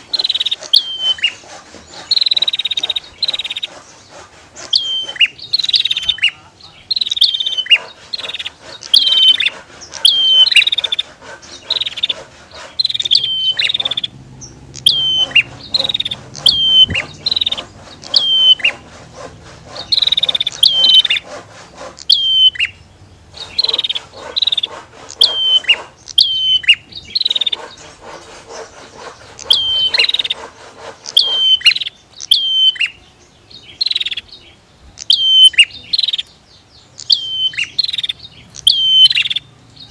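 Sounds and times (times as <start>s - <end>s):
bird chirping: 0.0s - 39.9s
harsh buzzing bird trill: 0.0s - 39.9s.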